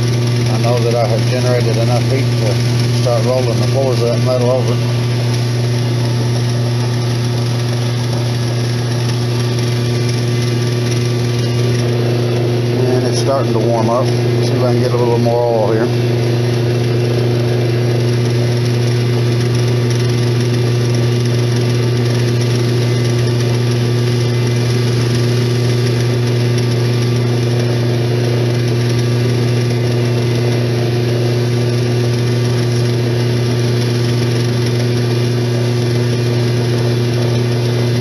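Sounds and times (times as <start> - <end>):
metal lathe humming: 0.0 - 38.0.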